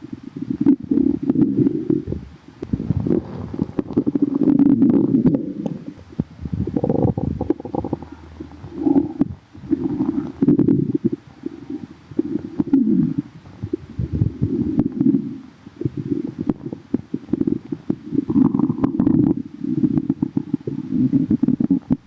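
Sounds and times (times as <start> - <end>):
stomach growling: 0.0 - 22.0.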